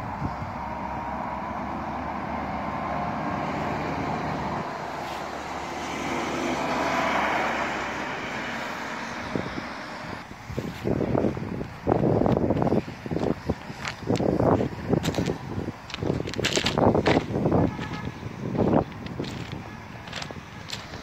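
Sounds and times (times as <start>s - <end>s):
heavy truck passing: 0.0s - 21.0s
steady traffic: 0.0s - 21.0s.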